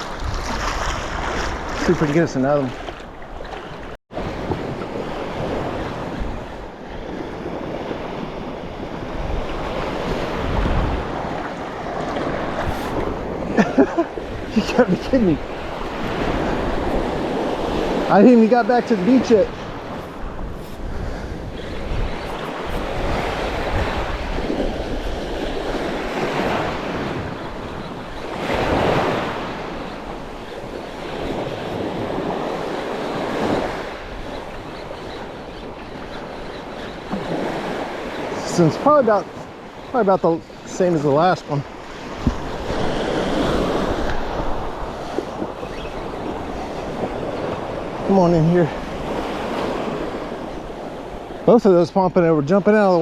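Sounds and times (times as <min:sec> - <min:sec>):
wind buffeting microphone: 0:00.0 - 0:51.6
surf washing in: 0:00.0 - 0:53.0.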